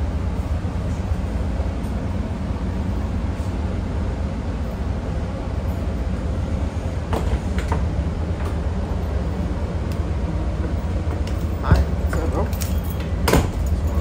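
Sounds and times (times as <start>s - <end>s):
train interior low rumble: 0.0s - 14.0s.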